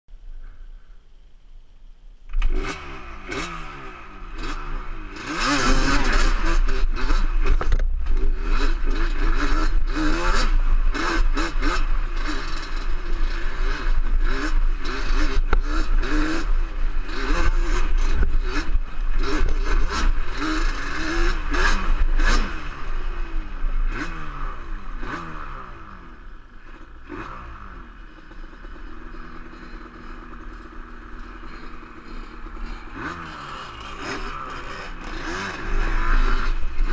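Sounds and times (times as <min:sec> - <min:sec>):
atv engine revving: 0:02.3 - 0:36.9.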